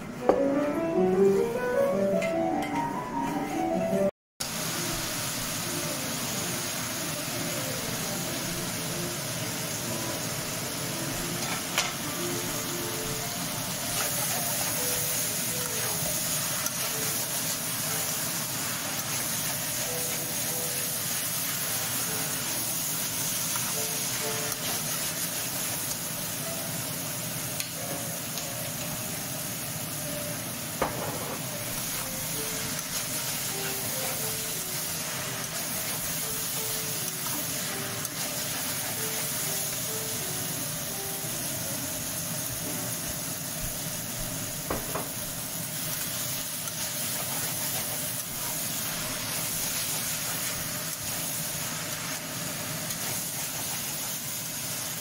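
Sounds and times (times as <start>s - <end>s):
potatoes sizzling in a wok: 4.4s - 55.0s.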